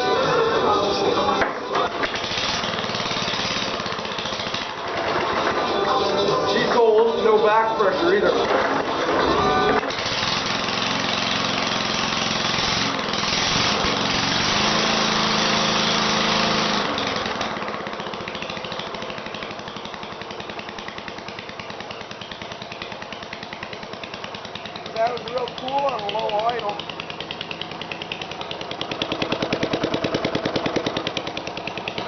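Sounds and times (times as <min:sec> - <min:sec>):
lawnmower engine running: 0:00.0 - 0:32.0.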